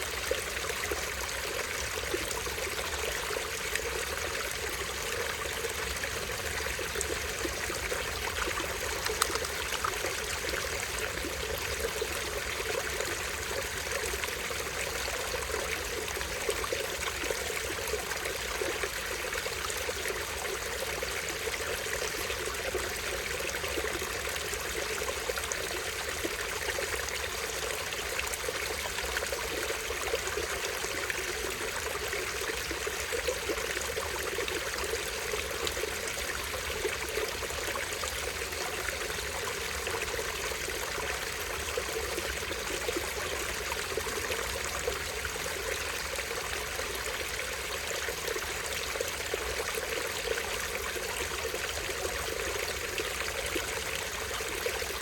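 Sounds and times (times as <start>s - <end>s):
stream trickling over waterfall: 0.0s - 55.0s.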